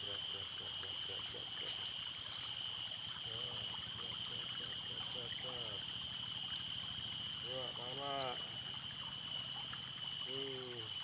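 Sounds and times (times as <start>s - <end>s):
high-pitched insect drone: 0.0s - 11.0s
running stream water: 0.0s - 11.0s.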